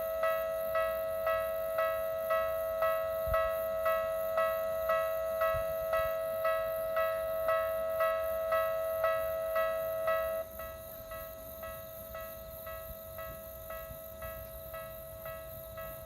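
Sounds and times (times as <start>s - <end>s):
level crossing alarm chiming: 0.0s - 16.0s.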